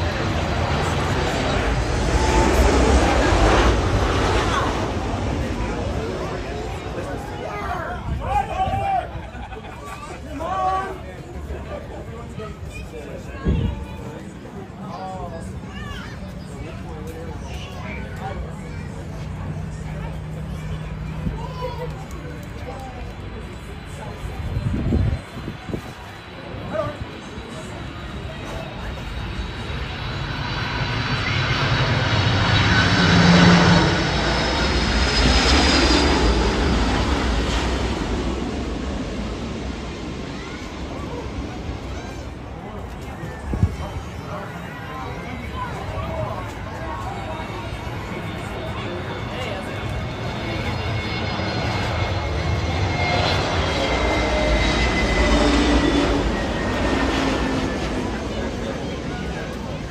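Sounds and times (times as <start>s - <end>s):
jet engines roaring overhead: 0.0s - 59.9s.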